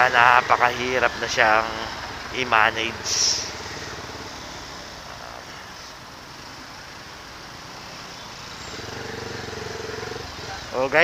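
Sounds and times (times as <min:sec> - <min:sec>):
motorcycle engine hum: 0:00.0 - 0:11.0
road and wind noise: 0:00.0 - 0:11.0.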